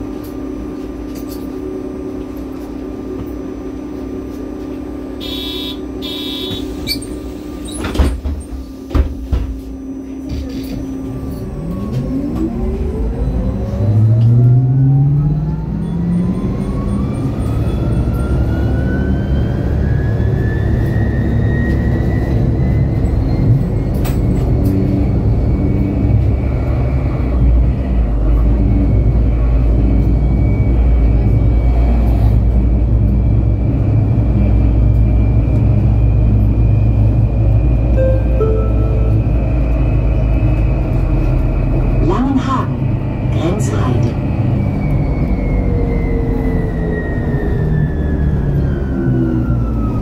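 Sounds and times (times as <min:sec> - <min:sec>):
electric bus drive whine: 0:00.0 - 0:50.0
low drivetrain and road rumble: 0:00.0 - 0:50.0.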